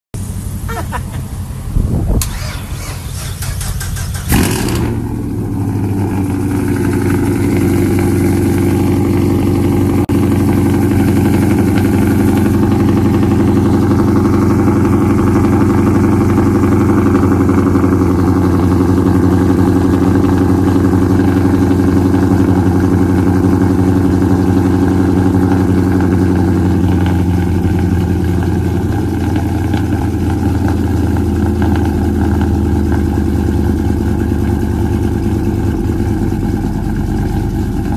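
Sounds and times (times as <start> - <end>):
engine idling fast: 0.2 - 37.9.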